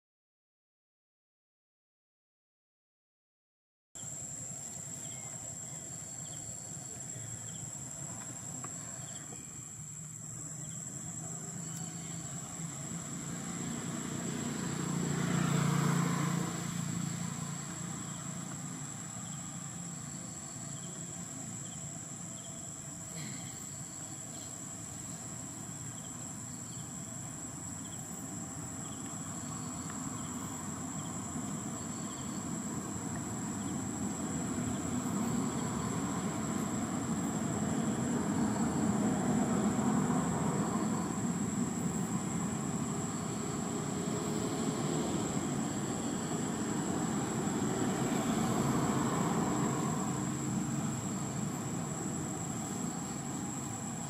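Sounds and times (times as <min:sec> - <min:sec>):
insects droning: 0:04.0 - 0:54.0
passing engine rumble: 0:04.2 - 0:54.0.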